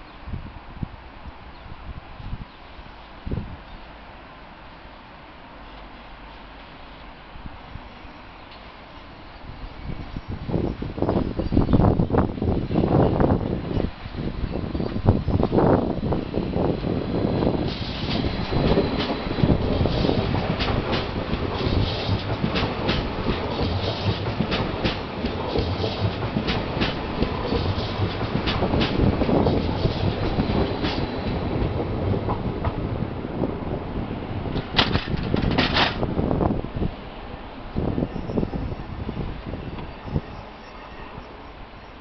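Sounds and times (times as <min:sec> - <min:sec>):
wind gusting on microphone: 0:00.2 - 0:03.8, 0:09.3 - 0:41.2
electric train approaching: 0:02.7 - 0:42.0.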